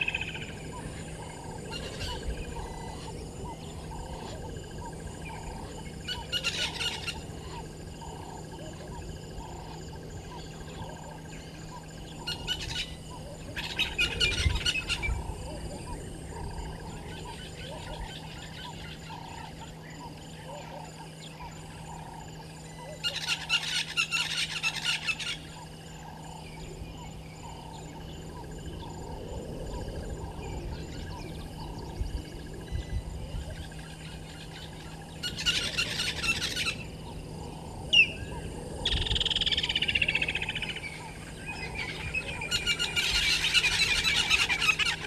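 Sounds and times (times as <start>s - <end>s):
birds calling in fast notes: 0.0s - 45.0s.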